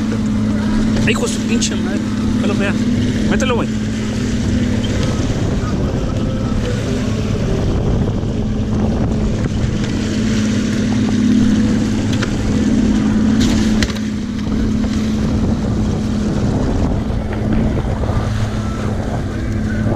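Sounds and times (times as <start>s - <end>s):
boat motor humming: 0.0s - 19.9s
wind on microphone: 0.0s - 19.9s.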